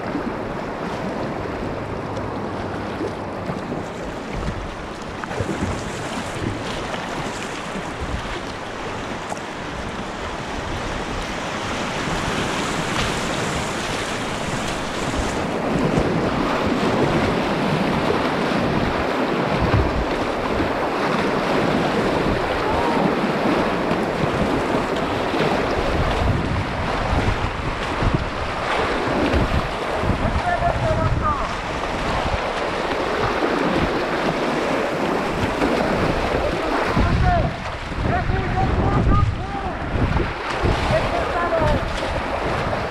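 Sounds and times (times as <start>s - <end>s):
paddle strokes in water: 0.0s - 42.9s
wind buffeting microphone: 3.4s - 42.9s
river rapids rushing: 4.8s - 42.9s.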